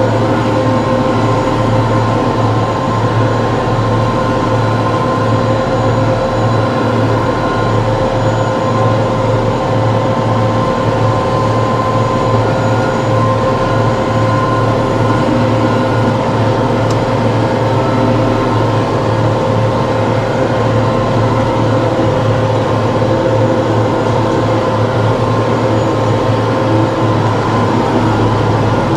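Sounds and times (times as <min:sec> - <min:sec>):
constant high whine: 0:00.0 - 0:28.9
diesel tractor engine hum: 0:00.0 - 0:28.9.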